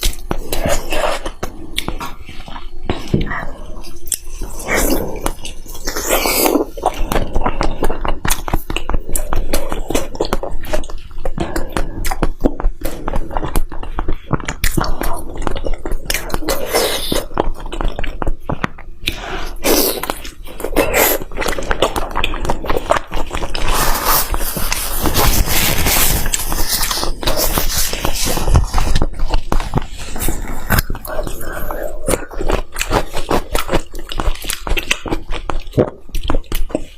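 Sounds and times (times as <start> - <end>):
chewing and biting food: 0.0 - 36.9.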